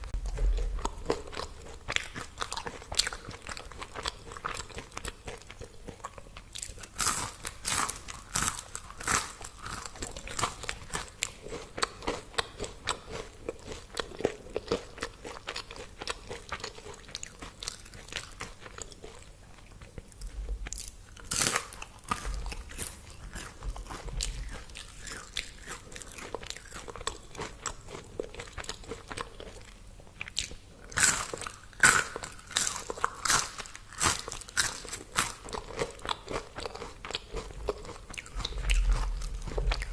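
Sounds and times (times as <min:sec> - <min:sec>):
person chewing crispy food: 0:00.0 - 0:39.9.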